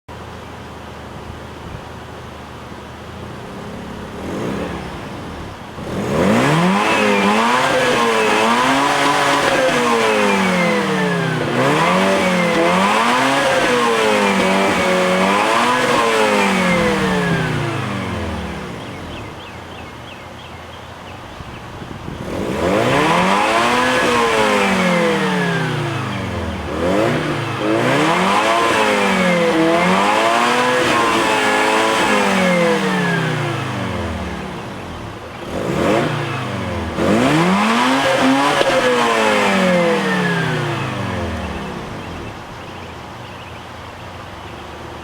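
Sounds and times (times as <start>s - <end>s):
rotary engine revving: 2.8s - 20.2s, 20.8s - 43.4s.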